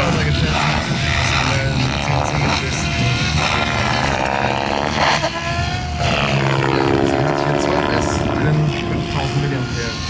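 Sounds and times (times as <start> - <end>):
motor and gears whining: 0.0 - 10.0
rotor blades whooshing: 0.0 - 10.0.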